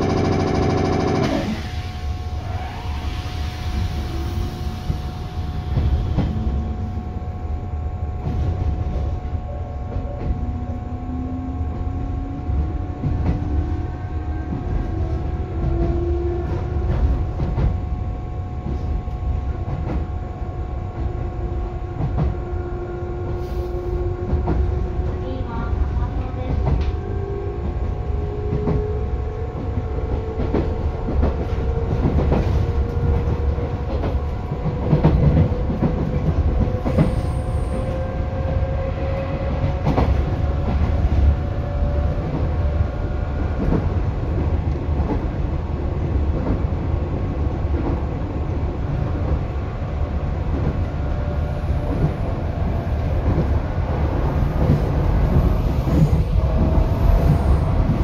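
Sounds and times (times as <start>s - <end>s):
train running on rails: 0.0s - 58.0s.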